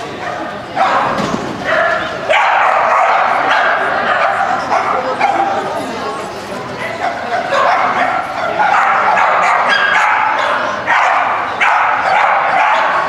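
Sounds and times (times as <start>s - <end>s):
dog barking in high yips: 0.2s - 5.6s, 6.8s - 13.0s.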